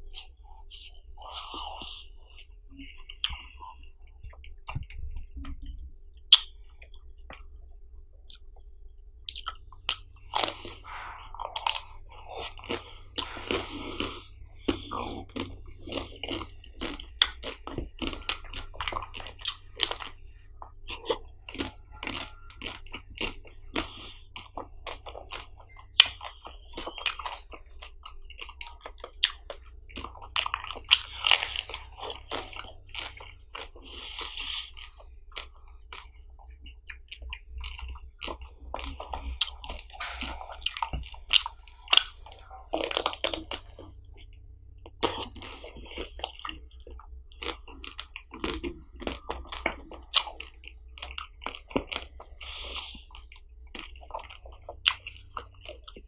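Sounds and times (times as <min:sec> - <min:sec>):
moist chewing: 0:00.0 - 0:56.0.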